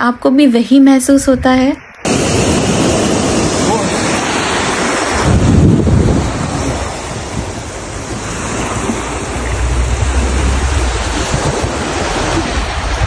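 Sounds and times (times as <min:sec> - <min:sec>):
wind buffeting microphone: 0:01.0 - 0:13.0
surf breaking on beach: 0:02.0 - 0:13.0.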